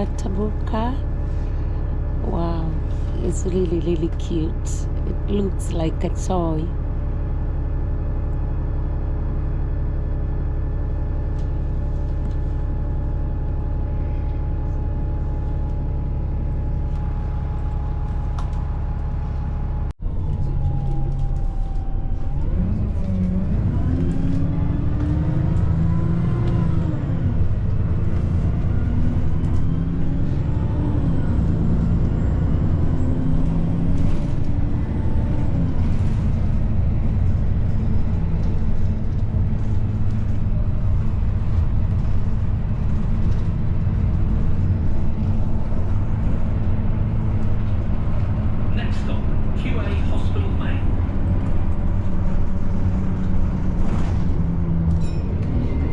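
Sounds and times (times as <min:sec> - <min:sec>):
bus engine running: 0:00.0 - 0:55.9.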